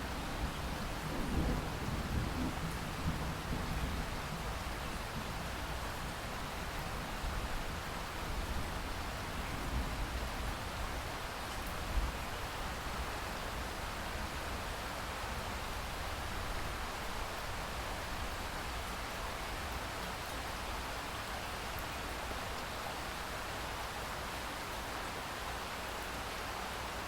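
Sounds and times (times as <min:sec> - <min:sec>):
rain falling on a lake: 0:00.0 - 0:27.0.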